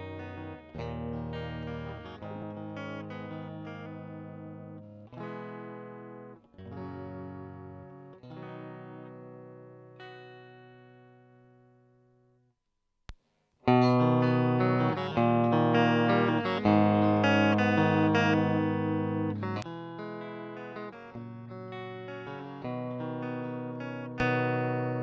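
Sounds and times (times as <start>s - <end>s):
clean electric guitar: 0.0s - 12.3s, 13.6s - 25.0s.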